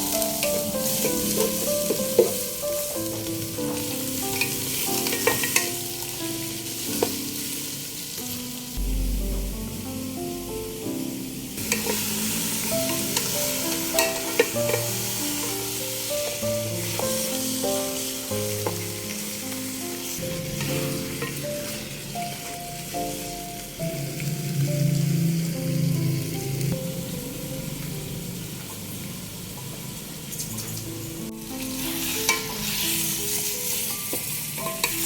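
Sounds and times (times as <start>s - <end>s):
food sizzling in a pan: 0.0s - 35.0s
instrumental background music: 0.0s - 35.0s.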